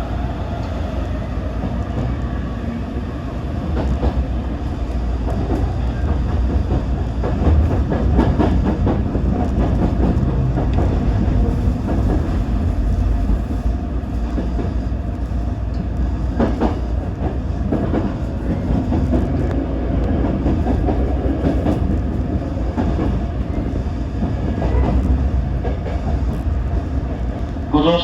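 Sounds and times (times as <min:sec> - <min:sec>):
train wheel and track rumble: 0:00.0 - 0:28.0
rail clicks: 0:03.4 - 0:28.0.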